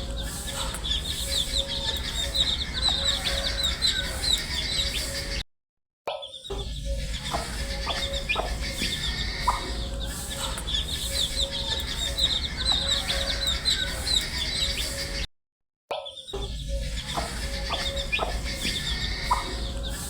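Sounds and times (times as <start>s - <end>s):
baby chicks peeping: 0.0s - 5.4s, 6.4s - 15.2s, 16.2s - 20.0s.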